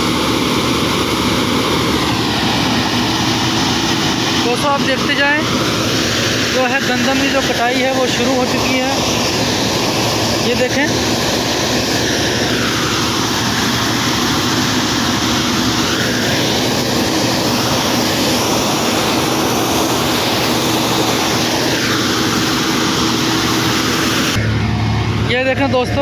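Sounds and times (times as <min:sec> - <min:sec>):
combine harvester droning: 0:00.0 - 0:26.0.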